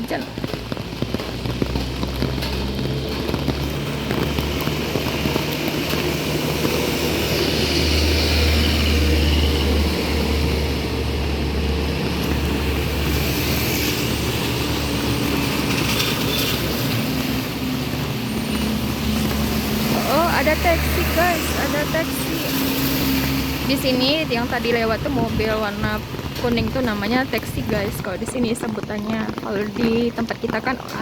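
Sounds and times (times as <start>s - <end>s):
rain falling: 0.0s - 31.0s
vehicle engine rumble: 0.0s - 31.0s.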